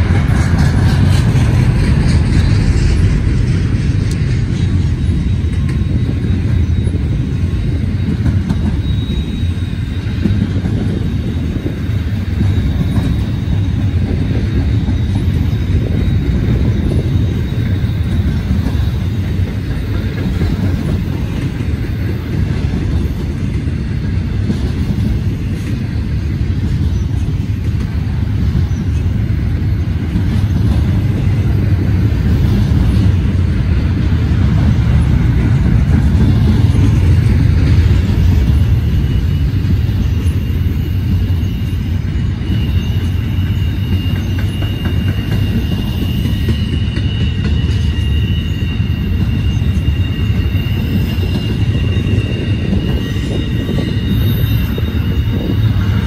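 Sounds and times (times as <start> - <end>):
freight train rolling rumble: 0.0 - 56.0
high wheel squeal: 0.0 - 56.0.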